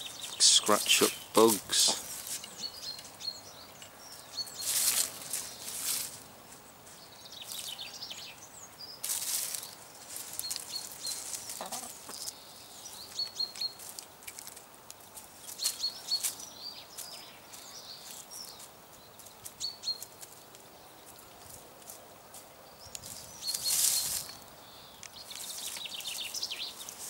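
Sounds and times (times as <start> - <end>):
hens scratching in dry leaves: 0.1 - 2.8, 4.4 - 8.1, 9.0 - 27.0.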